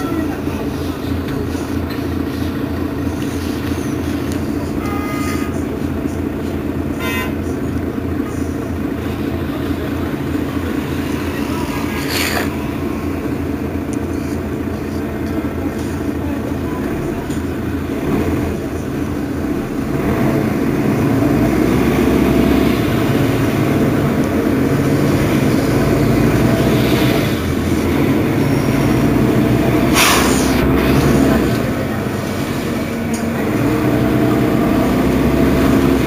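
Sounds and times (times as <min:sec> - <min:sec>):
bus diesel engine idling: 0:00.0 - 0:36.0.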